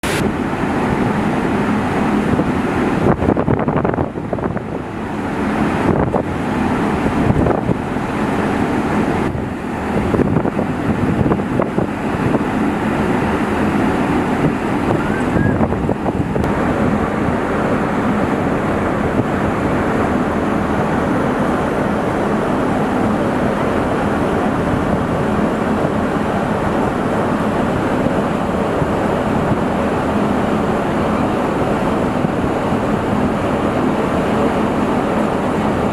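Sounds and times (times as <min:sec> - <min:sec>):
low mechanical hum: 0:00.0 - 0:35.9
wind buffeting microphone: 0:00.0 - 0:35.9.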